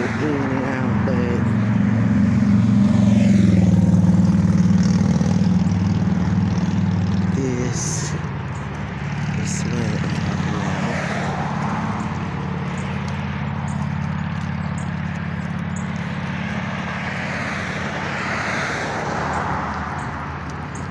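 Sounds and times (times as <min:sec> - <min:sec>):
traffic engine hum: 0:00.0 - 0:20.9
vehicles passing: 0:00.0 - 0:20.9.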